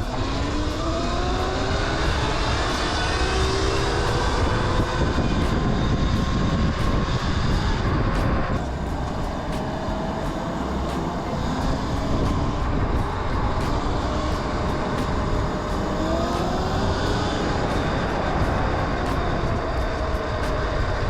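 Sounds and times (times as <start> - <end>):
electric motor whine: 0.0 - 21.0
wind on microphone: 0.0 - 21.0.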